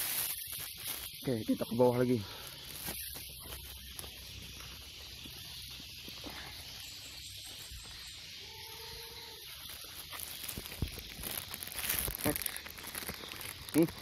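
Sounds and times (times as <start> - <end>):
footsteps through leaf litter: 0.0 - 14.0
forest ambience hiss: 0.0 - 14.0.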